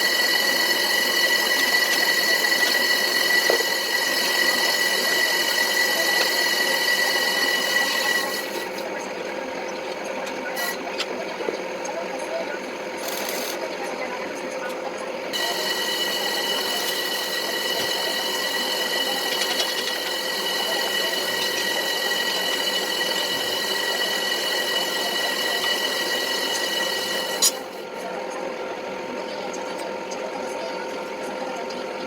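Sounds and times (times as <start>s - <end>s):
electric motor running: 0.0s - 11.5s, 12.5s - 13.8s, 14.6s - 27.9s
high whine: 0.0s - 13.6s, 14.4s - 27.9s.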